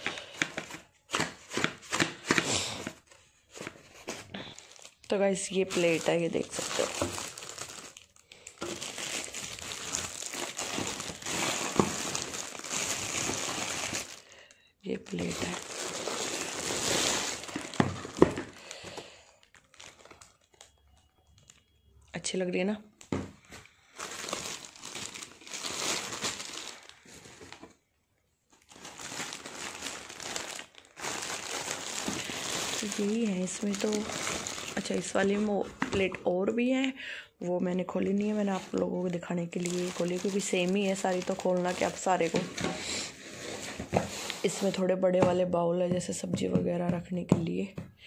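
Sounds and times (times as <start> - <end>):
plastic wrapping crinkling: 0.0 - 21.8, 23.0 - 27.8, 28.4 - 36.2, 37.9 - 44.8.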